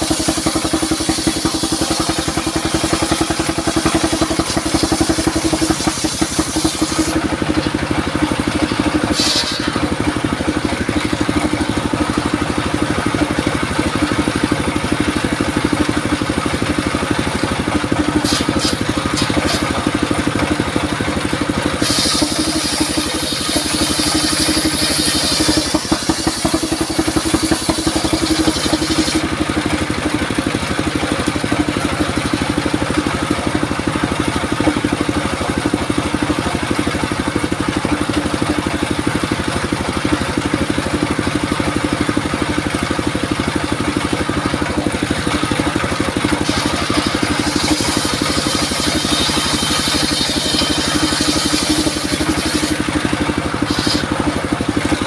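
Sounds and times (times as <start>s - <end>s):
circular saw cutting log: 0.0s - 55.0s
diesel engine running: 0.0s - 55.0s.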